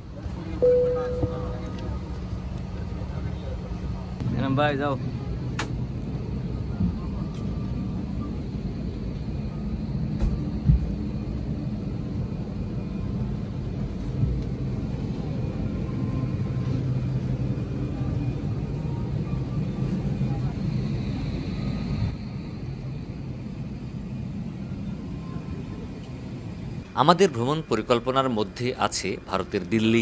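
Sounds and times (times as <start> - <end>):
faint murmur of voices: 0.0 - 26.9
low cabin hum: 0.0 - 27.4.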